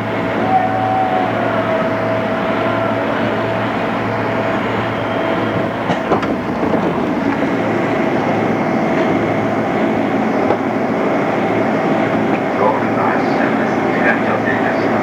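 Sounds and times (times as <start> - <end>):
train motor whine: 0.0 - 15.0
train running rumble: 0.0 - 15.0.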